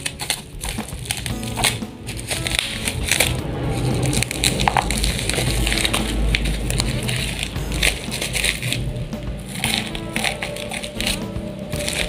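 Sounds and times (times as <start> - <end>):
plastic crinkling: 0.0 - 12.0
scissors cutting plastic: 0.0 - 12.0.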